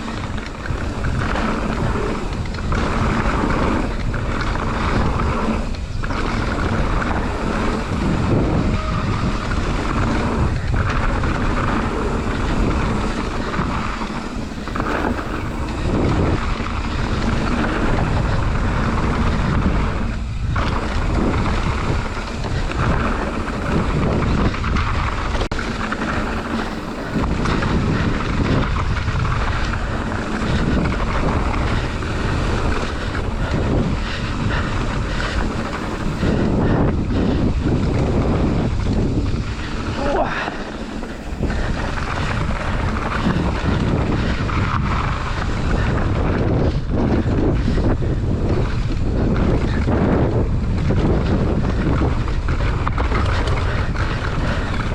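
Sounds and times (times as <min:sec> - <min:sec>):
bike rattling over rough ground: 0:00.0 - 0:54.9
wind buffeting microphone: 0:00.0 - 0:54.9.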